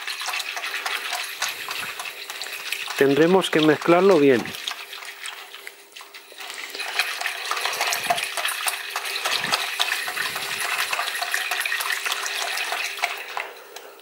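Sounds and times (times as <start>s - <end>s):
whisk wires clicking on bowl: 0.0s - 13.9s
whisk sloshing custard: 0.0s - 14.0s.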